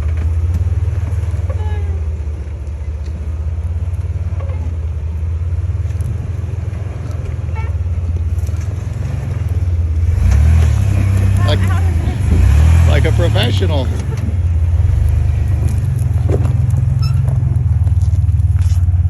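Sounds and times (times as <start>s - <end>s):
engine rumbling at low revs: 0.0s - 19.0s.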